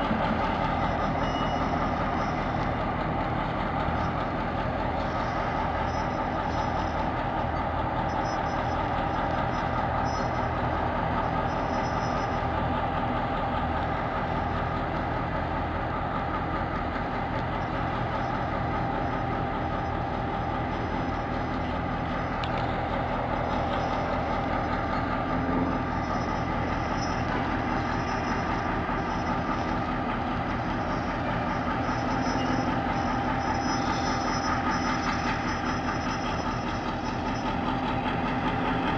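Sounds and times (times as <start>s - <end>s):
locomotive diesel engine idling: 0.0s - 38.9s.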